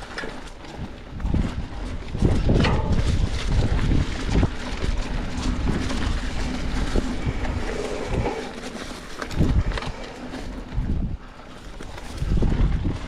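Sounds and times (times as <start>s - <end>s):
bike knocks and rattles: 0.0s - 13.0s
bike tyres rumbling on dirt: 0.0s - 13.0s
wind noise on microphone: 0.0s - 13.0s.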